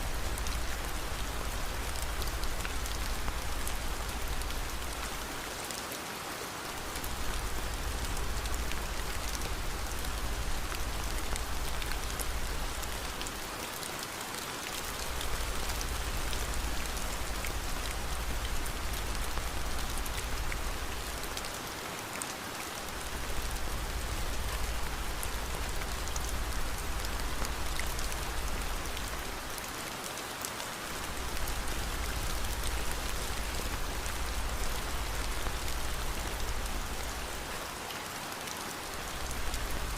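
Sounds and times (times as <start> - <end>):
faint rain ticks: 0.0 - 39.9
steady rain hiss: 0.0 - 39.9.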